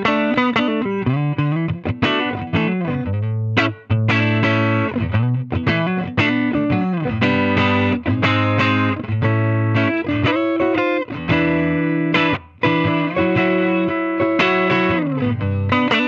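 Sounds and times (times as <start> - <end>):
electric guitar chords: 0.0 - 16.0.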